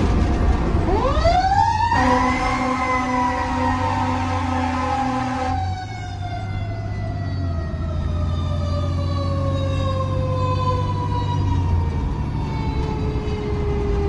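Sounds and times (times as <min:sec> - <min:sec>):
fire engine siren: 0:00.0 - 0:14.0
truck engine drone: 0:00.0 - 0:14.0.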